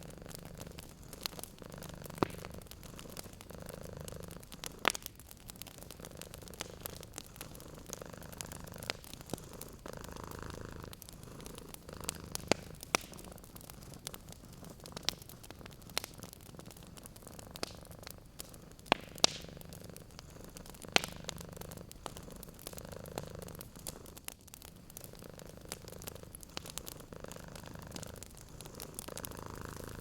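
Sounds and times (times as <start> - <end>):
cat purring: 0.0 - 30.0
wood fire crackling and popping: 0.0 - 30.0.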